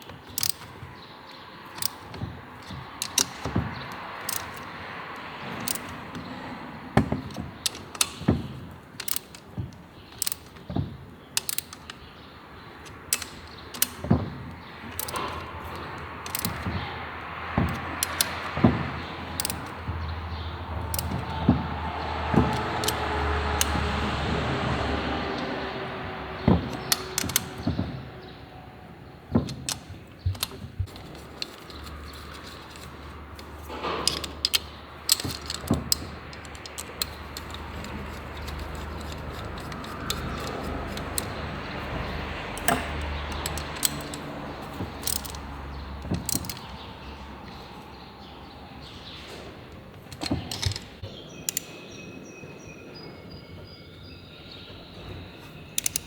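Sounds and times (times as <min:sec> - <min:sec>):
metal tools clinking and knocking: 0:00.0 - 0:24.7, 0:25.3 - 0:28.6, 0:29.3 - 0:48.3, 0:48.9 - 0:51.8, 0:55.1 - 0:56.0.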